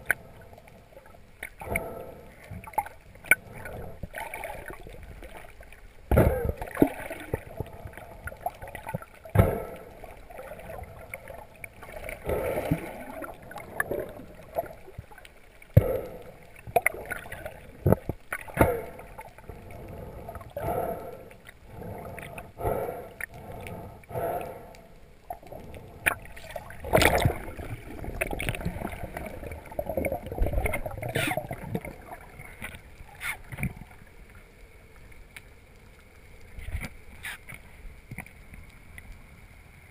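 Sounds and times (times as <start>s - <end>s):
water gurgling underwater: 0.0s - 23.3s, 25.2s - 34.1s.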